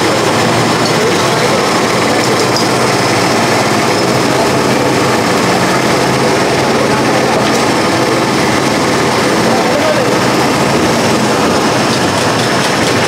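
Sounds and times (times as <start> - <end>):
loud steady background noise: 0.0 - 13.0.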